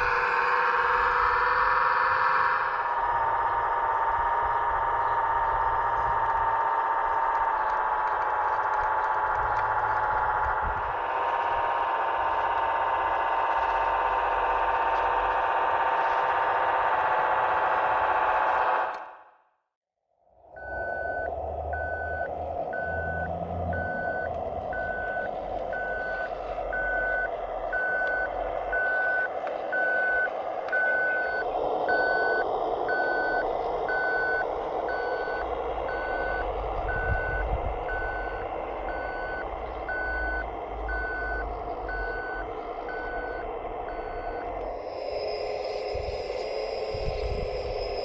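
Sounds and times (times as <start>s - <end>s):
reversing beeper: 0.0s - 19.2s, 20.4s - 48.0s
steady mechanical drone: 0.0s - 19.5s, 20.2s - 48.0s.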